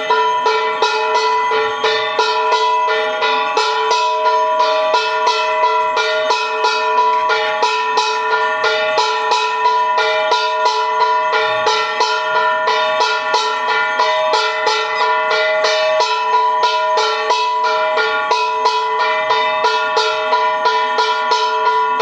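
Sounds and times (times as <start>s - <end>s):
plucked bell-like music notes: 0.0s - 22.0s.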